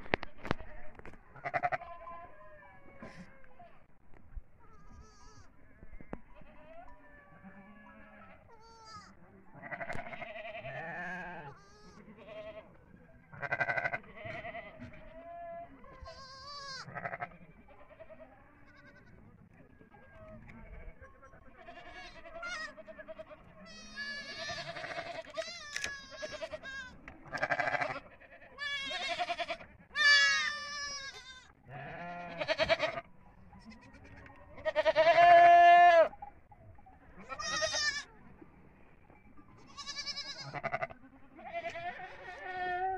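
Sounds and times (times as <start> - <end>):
goat kids bleating: 0.1 - 3.6, 4.6 - 5.6, 6.2 - 12.7, 13.4 - 19.3, 20.2 - 36.2, 37.1 - 38.2, 39.5 - 42.9.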